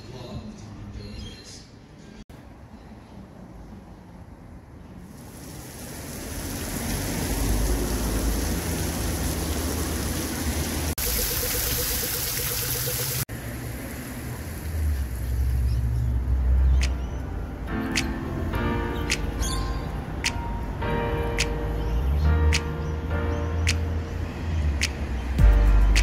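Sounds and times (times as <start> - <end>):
city street ambience: 0.0 - 26.0.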